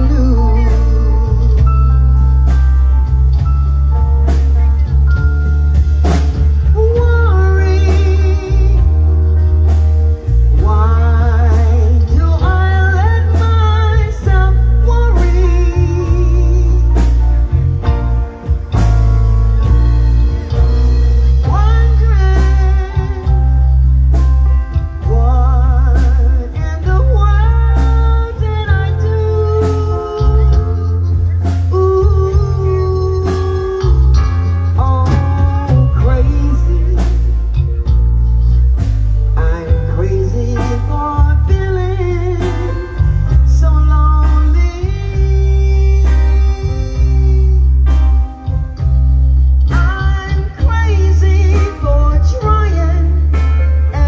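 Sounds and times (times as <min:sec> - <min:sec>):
blues-rock band playing: 0:00.0 - 0:54.0
guitar: 0:00.0 - 0:54.0
heavy bass line: 0:00.0 - 0:54.0.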